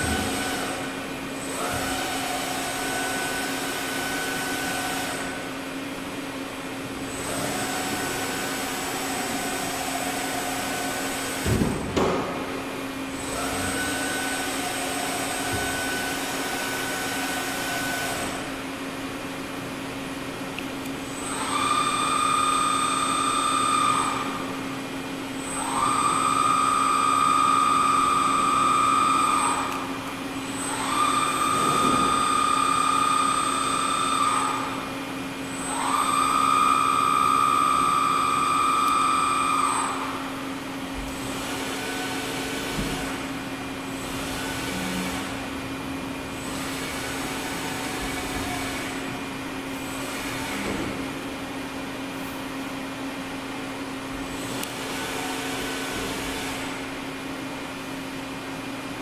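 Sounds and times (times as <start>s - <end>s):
machine axis drive whine: 0.0s - 59.0s
machine low hum: 0.0s - 59.0s.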